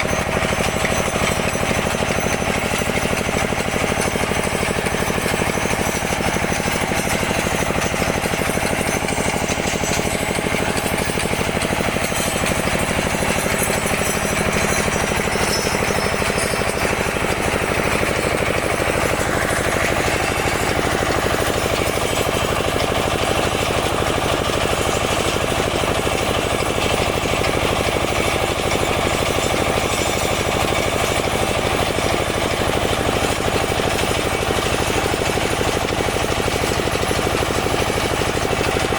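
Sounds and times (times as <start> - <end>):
drill machine chattering: 0.0 - 38.9.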